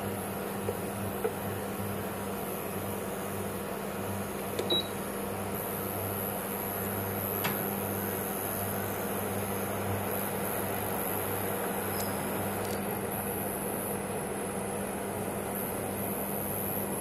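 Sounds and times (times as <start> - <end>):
cooktop humming with fan: 0.0 - 17.0.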